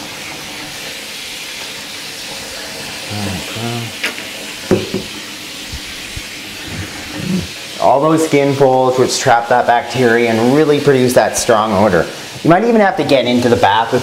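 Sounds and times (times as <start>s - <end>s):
water running into bathtub: 0.0s - 14.0s.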